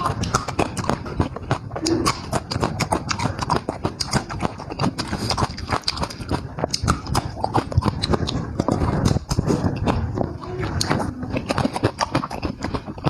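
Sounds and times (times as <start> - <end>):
lip smacks: 0.0 - 13.0
sharp mouth clicks: 0.0 - 13.0
wet chewing: 0.0 - 13.0.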